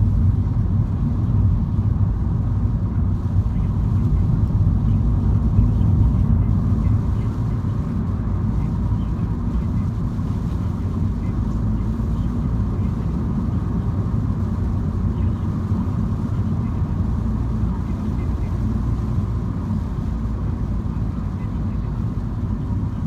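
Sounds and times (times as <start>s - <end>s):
car engine and road noise rumble: 0.0s - 23.0s.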